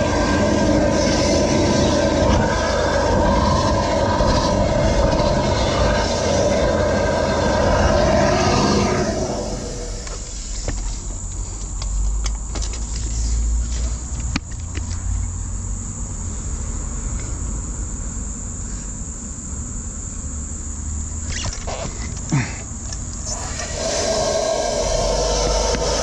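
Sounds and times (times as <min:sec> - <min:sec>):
engine humming with high whine: 0:00.0 - 0:26.0.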